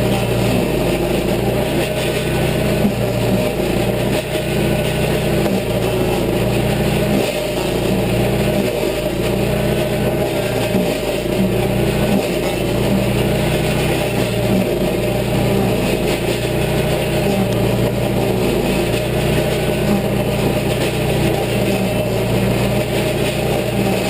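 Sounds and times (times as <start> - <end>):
cutting wheel grinding wood: 0.0 - 24.0
stump grinder engine under load: 0.0 - 24.0.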